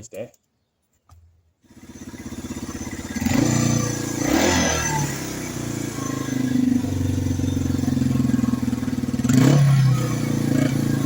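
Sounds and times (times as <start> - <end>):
motorcycle engine idling: 1.6 - 11.0.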